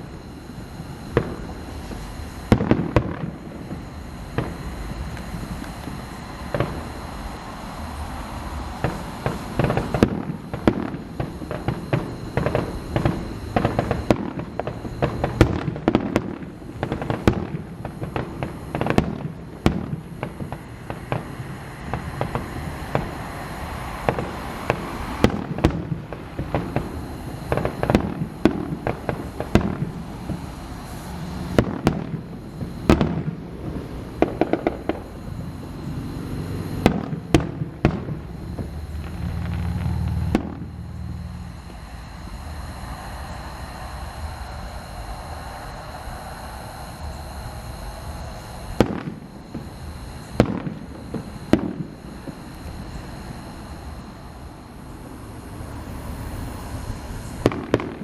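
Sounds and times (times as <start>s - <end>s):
fireworks bangs and crackling: 0.0s - 44.8s, 47.1s - 58.0s.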